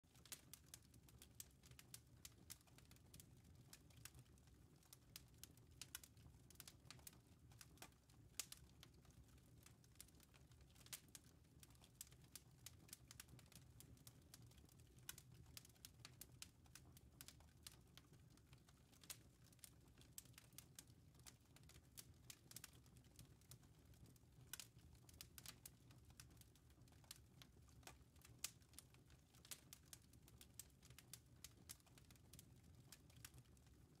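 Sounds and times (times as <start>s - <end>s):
faint clicks and crackles: 0.0s - 34.0s.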